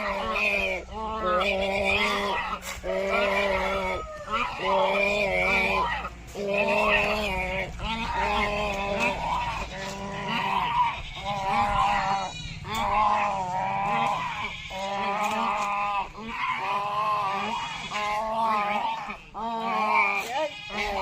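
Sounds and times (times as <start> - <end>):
loud bleating bird calls: 0.0 - 21.0
waterbirds calling: 0.0 - 21.0.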